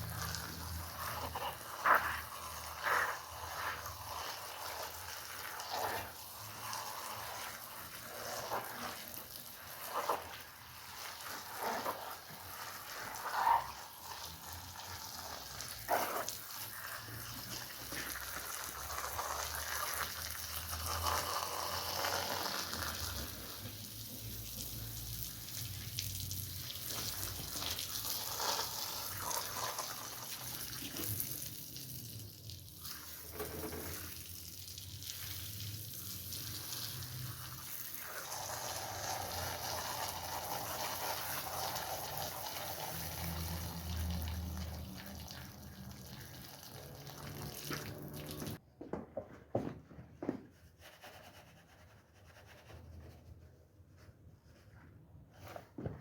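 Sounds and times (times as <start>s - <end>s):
foam fizzing and running water: 0.0s - 48.6s
water sloshing on a rug: 0.0s - 48.6s.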